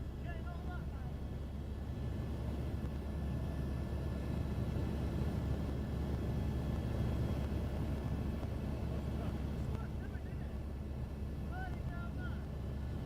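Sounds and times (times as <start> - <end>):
helicopter drone from inside cabin: 0.0 - 13.0.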